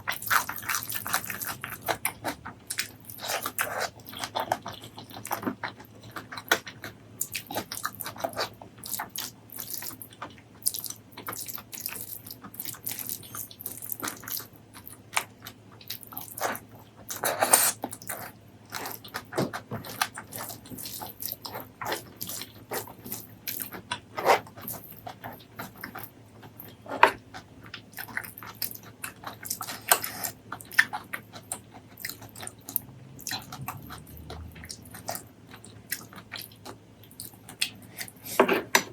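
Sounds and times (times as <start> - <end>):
wet chewing and lip smacking: 0.0 - 38.4.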